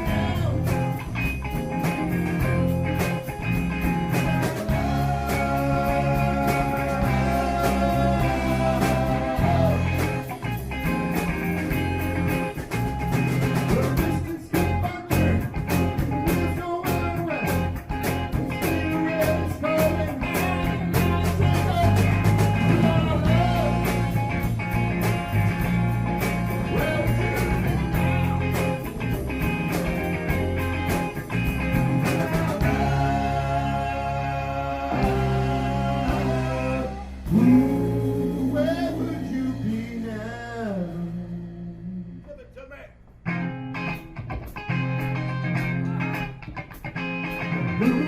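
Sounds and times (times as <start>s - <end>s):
steady drum beat: 0.0s - 40.1s
bass guitar: 0.0s - 48.0s
electric guitar lines with bent notes: 0.0s - 48.0s.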